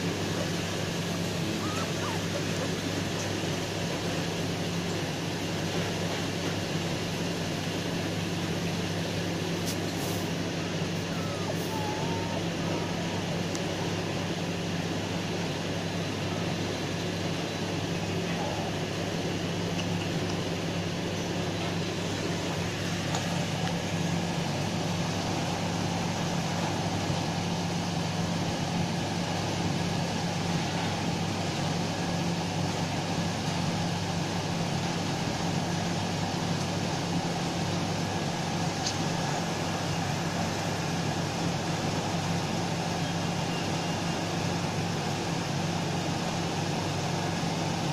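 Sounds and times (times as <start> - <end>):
low machine hum: 0.0 - 47.9.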